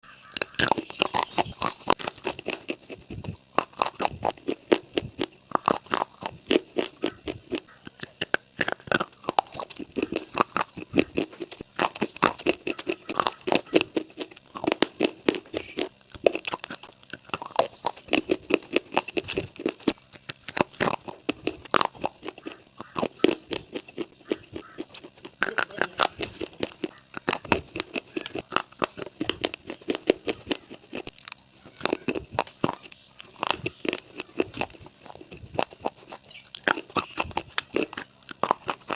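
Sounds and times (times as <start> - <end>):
crunchy eating: 0.0 - 38.9.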